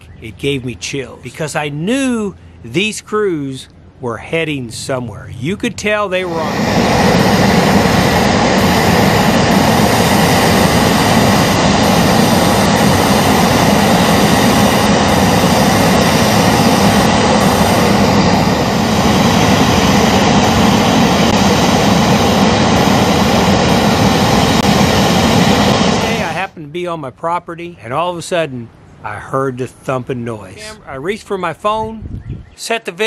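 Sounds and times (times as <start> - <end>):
aircraft engines rumbling: 0.0 - 32.4.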